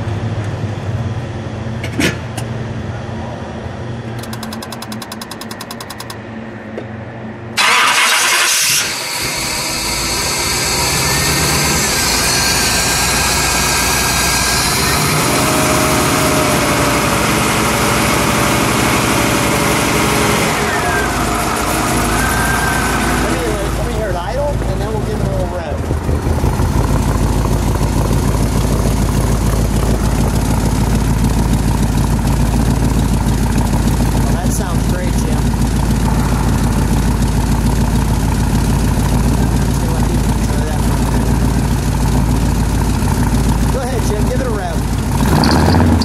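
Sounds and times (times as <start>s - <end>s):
car engine idling: 4.0s - 6.6s, 7.5s - 46.0s
car engine cranking and starting: 4.1s - 6.2s, 7.6s - 46.0s.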